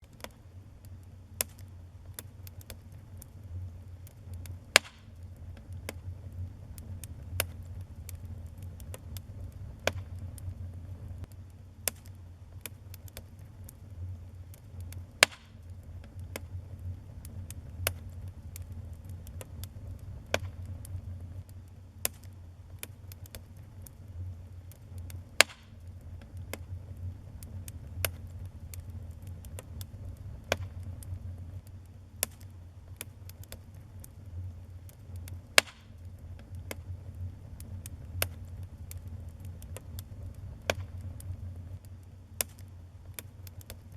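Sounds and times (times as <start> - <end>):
wood fire crackling: 0.0 - 43.9
loud fire pops: 1.4 - 43.9.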